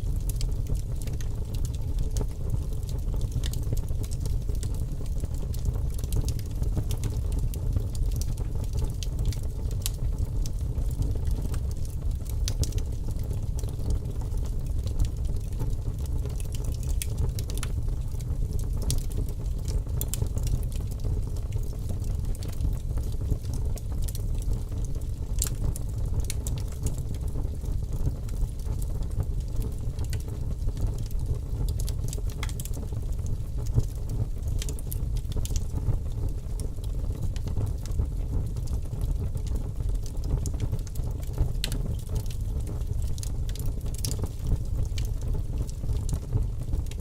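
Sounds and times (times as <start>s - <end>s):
fire crackling and popping: 0.0s - 47.0s.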